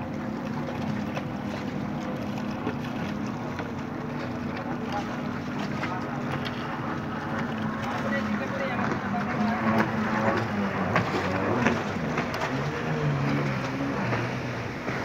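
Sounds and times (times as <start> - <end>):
low motor hum: 0.0 - 15.0
water lapping against rocks: 0.0 - 15.0.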